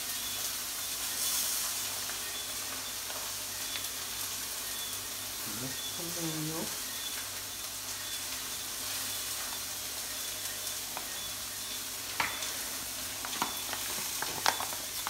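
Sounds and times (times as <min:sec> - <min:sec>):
burger patties sizzling in a pan: 0:00.0 - 0:15.0.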